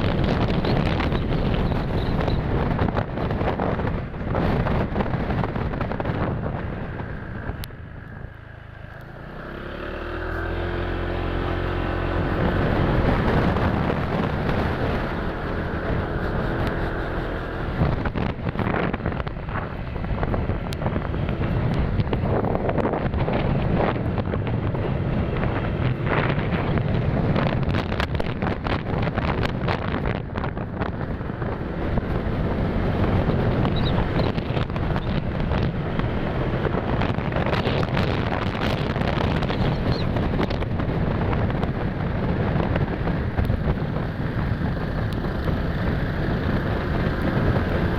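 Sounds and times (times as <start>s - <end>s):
motorcycle engine: 0.0s - 47.9s
wind buffeting microphone: 0.0s - 47.9s.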